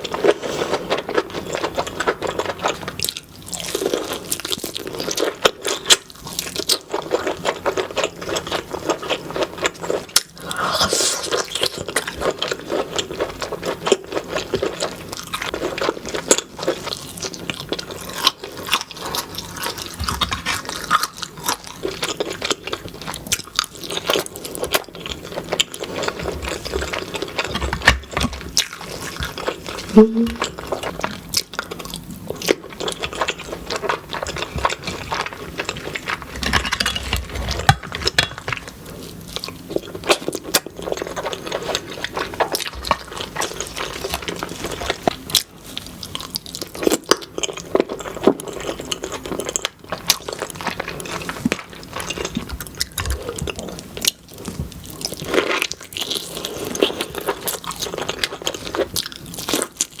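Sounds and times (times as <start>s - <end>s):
food crunches: 0.0s - 60.0s
wet chewing and biting: 0.0s - 60.0s.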